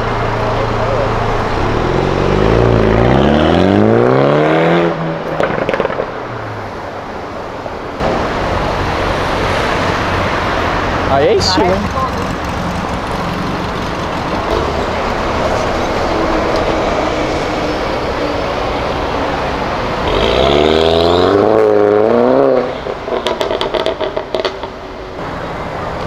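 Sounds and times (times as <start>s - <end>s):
car engine revving: 0.0s - 6.3s, 8.0s - 25.4s
street traffic: 0.0s - 26.0s.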